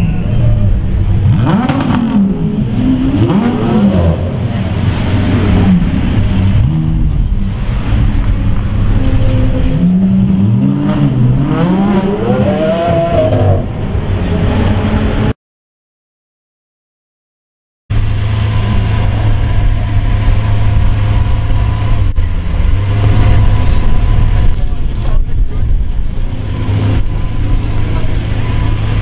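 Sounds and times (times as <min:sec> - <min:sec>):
car engine revving in tunnel: 0:00.0 - 0:15.3, 0:17.9 - 0:29.0.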